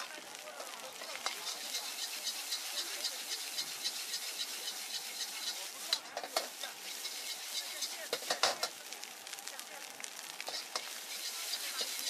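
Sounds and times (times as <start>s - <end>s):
rice sizzling in a wok: 0.0s - 12.0s
metal ladle scraping wok: 0.6s - 8.8s, 10.4s - 12.0s.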